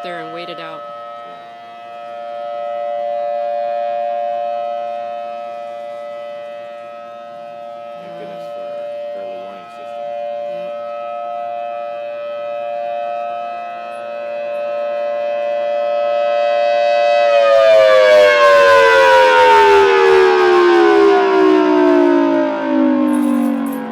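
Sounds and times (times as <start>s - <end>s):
warning siren wailing: 0.0s - 23.9s.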